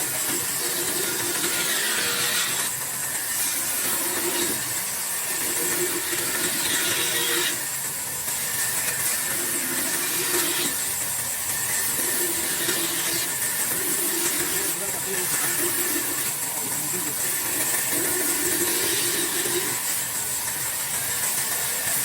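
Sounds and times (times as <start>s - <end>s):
power saw cutting wood: 0.0s - 22.0s.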